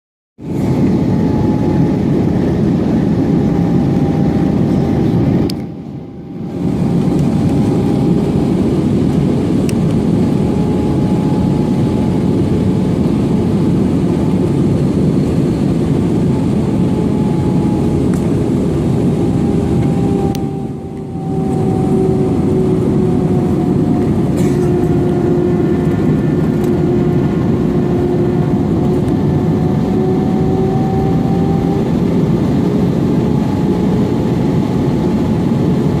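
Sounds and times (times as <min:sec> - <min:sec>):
jet engines droning in cabin: 0:00.4 - 0:36.0.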